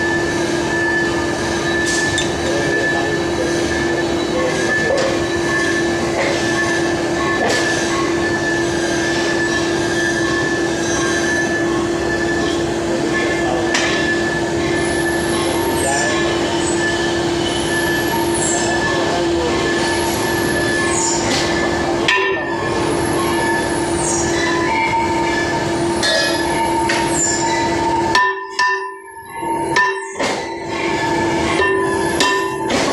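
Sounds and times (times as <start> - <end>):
metal lathe running: 0.0 - 32.9.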